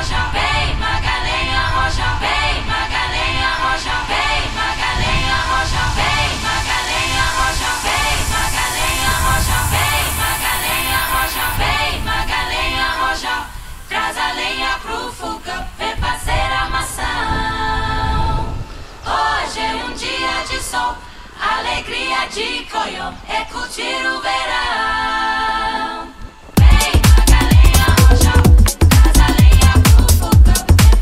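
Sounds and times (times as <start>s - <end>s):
song with singing voices: 0.0s - 31.0s.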